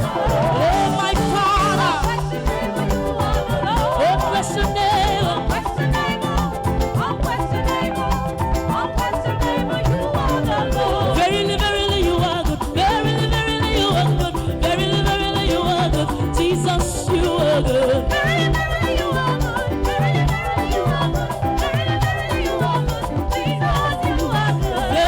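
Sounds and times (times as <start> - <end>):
bass line: 0.0 - 25.0
drums: 0.0 - 25.0
upbeat live band music: 0.0 - 25.0.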